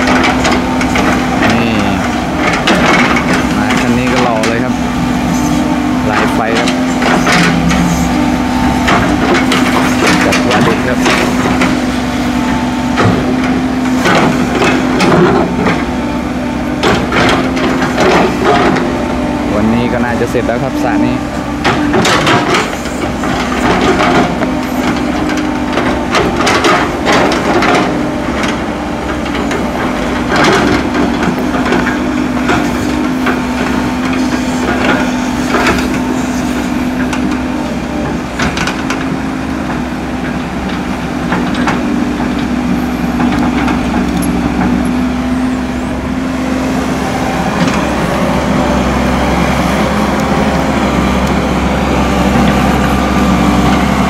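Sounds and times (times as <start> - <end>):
metal clanks and knocks: 0.0 - 12.0, 12.8 - 19.0, 19.6 - 46.4
excavator diesel engine running: 0.0 - 54.0.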